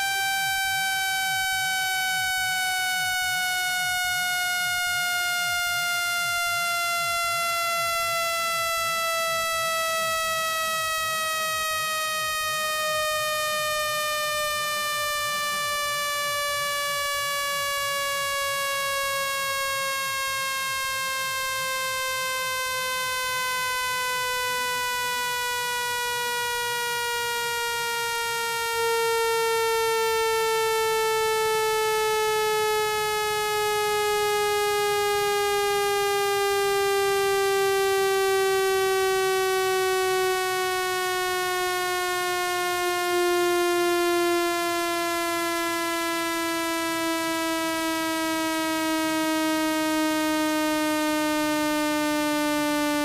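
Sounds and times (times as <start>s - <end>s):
buzzy synthesized tone gliding downward: 0.0s - 53.0s.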